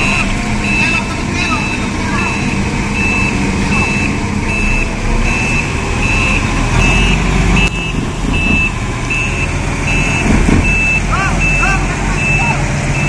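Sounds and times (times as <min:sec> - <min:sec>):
forklift engine running: 0:00.0 - 0:13.0
reversing alarm beeping: 0:00.0 - 0:13.0.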